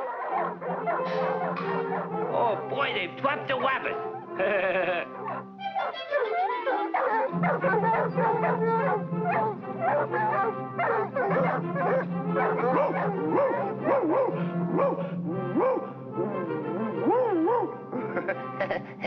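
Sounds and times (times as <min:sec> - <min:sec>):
cartoon dogs barking and yelping: 0:00.0 - 0:02.4, 0:03.9 - 0:19.0
orchestral cartoon music: 0:00.0 - 0:19.0.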